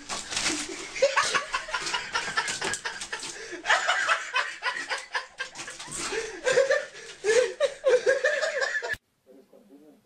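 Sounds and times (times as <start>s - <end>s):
person laughing: 0.5s - 9.0s.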